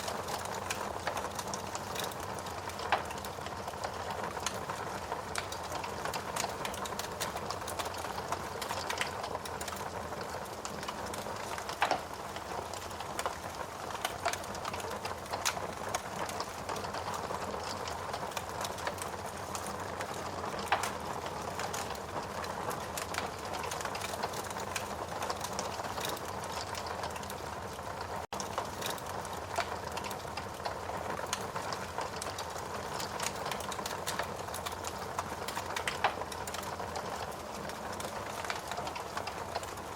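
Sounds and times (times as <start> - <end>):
burning logs popping: 0.0 - 39.9
wood fire crackling: 0.0 - 39.9.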